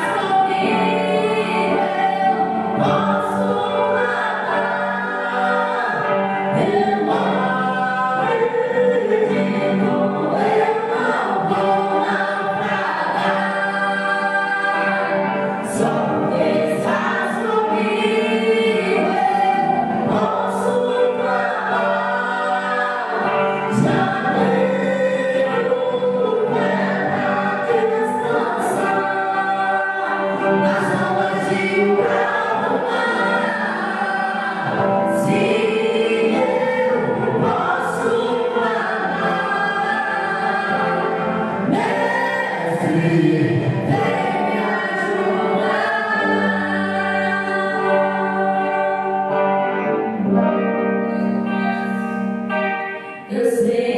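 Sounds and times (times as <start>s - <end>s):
choir singing gospel song: 0.0s - 53.9s
musical accompaniment: 0.0s - 53.9s.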